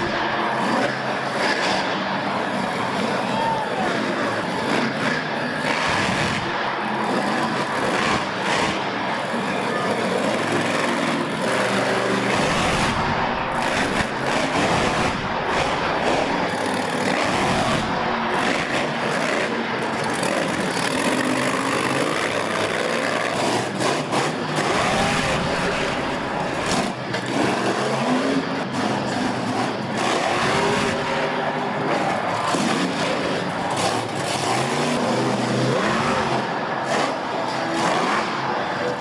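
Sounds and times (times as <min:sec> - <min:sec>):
monster truck engine revving: 0:00.0 - 0:39.0.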